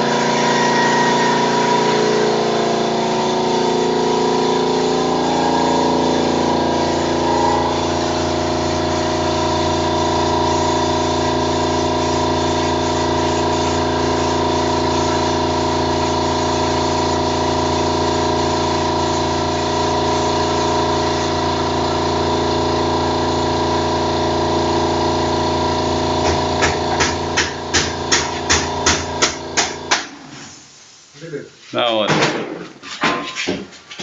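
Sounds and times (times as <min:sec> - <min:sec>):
air compressor running: 0:00.0 - 0:31.1
paint spray gun hissing: 0:01.3 - 0:31.1.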